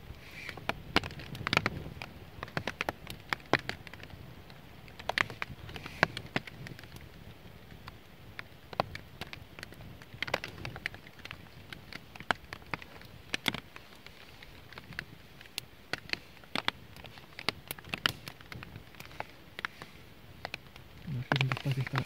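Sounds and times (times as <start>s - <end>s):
campfire crackling and popping: 0.0s - 22.0s
faint steady hiss: 0.0s - 22.0s.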